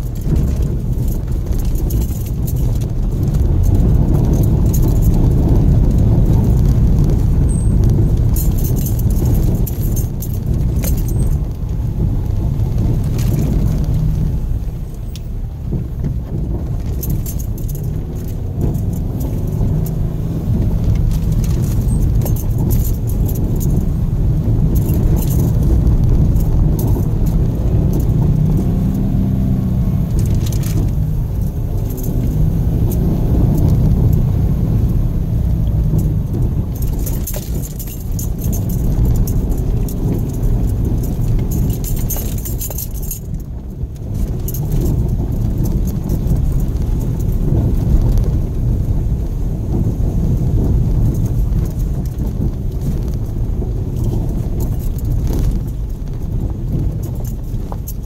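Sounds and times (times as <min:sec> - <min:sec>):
car engine and tyres rumbling: 0:00.0 - 0:58.0
car interior rattling: 0:00.0 - 0:58.0.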